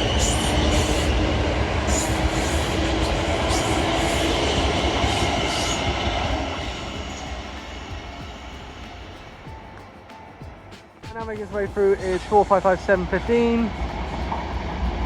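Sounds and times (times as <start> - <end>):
electric train high whine: 0.0 - 15.0.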